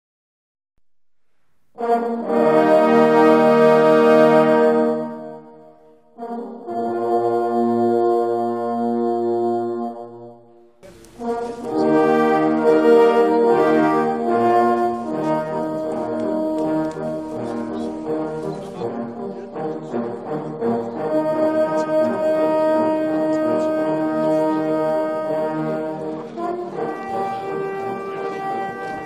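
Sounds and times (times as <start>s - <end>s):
brass horns playing: 1.7s - 29.0s.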